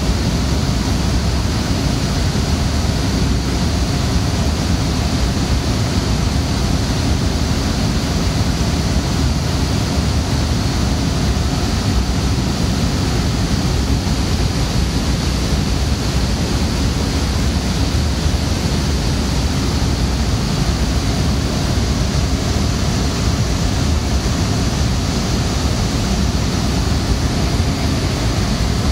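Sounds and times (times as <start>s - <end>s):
low hum: 0.0s - 28.9s
server fans rushing hiss: 0.0s - 28.9s.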